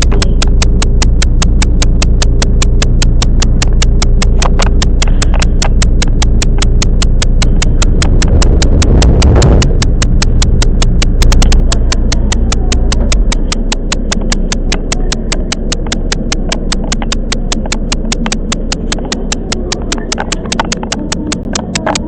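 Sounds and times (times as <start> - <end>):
fast even ticking clicks: 0.0 - 22.0
train low rumble: 0.0 - 22.0.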